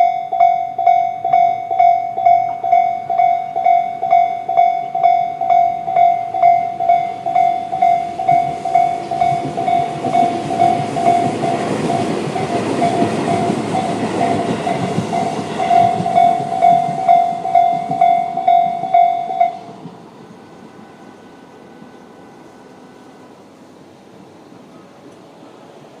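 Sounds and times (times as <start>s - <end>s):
electric train passing: 0.0s - 26.0s
level-crossing warning bells: 0.0s - 26.0s.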